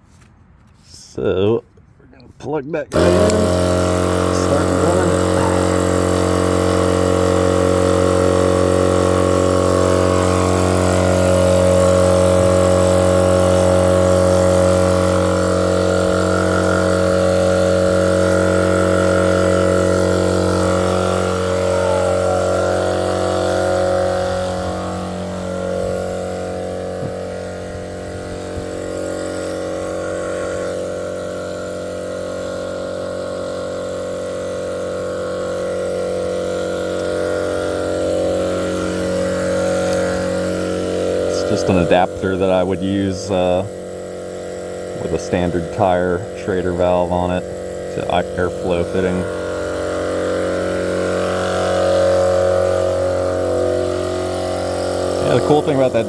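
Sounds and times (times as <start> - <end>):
air compressor running: 2.9 - 56.0.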